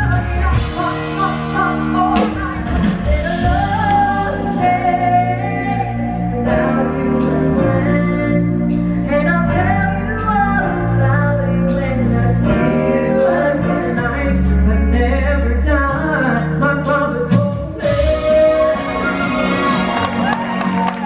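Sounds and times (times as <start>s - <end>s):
person singing: 0.0s - 20.9s
live band playing: 0.0s - 21.0s
piano: 0.0s - 21.0s.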